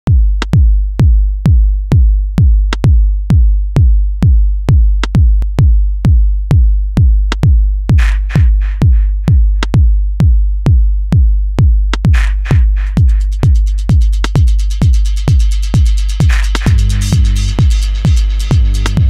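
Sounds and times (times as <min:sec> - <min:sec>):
kick drum and deep bass beat: 0:00.0 - 0:19.0.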